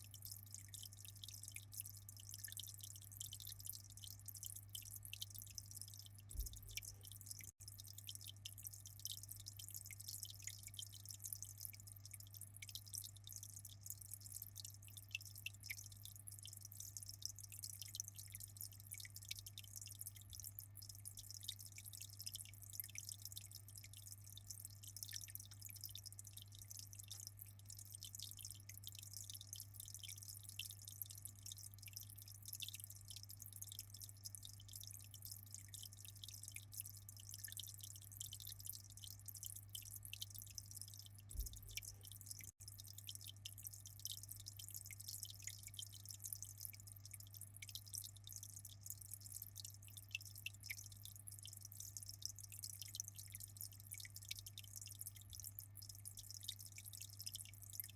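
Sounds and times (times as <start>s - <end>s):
water trickling and dripping: 0.0s - 57.9s.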